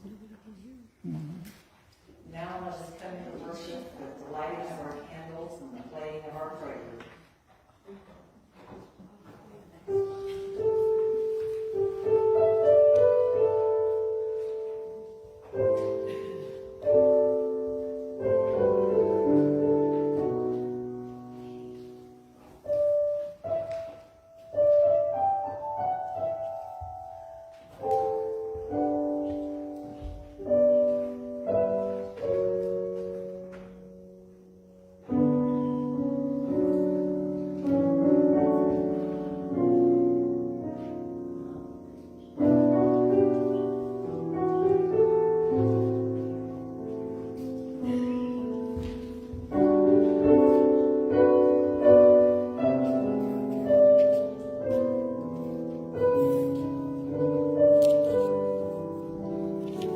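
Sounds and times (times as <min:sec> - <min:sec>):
slow piano chords: 0:00.0 - 0:59.9.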